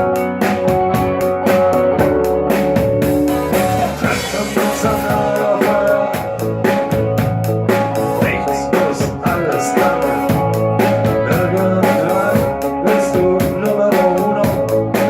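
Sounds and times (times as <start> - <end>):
drum kit fast beat: 0.0 - 15.0
sustained guitar chords: 0.0 - 15.0.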